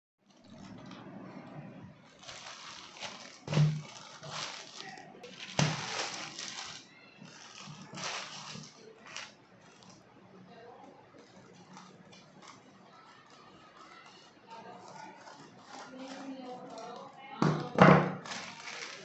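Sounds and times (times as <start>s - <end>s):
plastic mailer bag crinkling: 0.4s - 1.0s, 2.0s - 10.0s, 11.2s - 19.0s.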